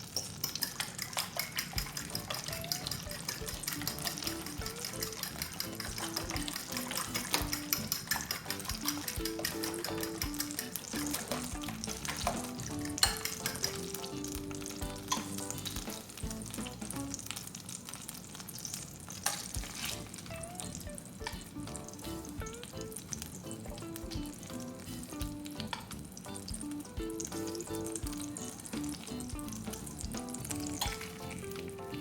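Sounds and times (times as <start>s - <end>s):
food sizzling in a pan: 0.0s - 32.0s
light background music: 1.8s - 17.4s, 19.6s - 32.0s.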